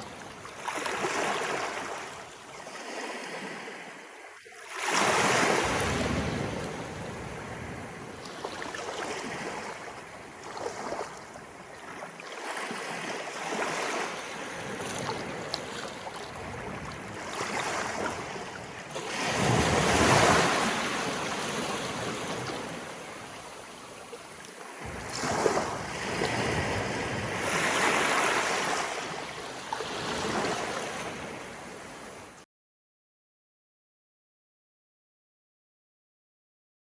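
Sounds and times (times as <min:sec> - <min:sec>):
sea waves washing in: 0:00.0 - 0:11.8, 0:12.4 - 0:32.4.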